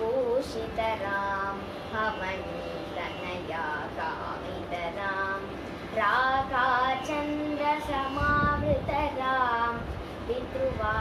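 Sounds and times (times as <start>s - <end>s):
girl singing solo: 0.0s - 11.0s.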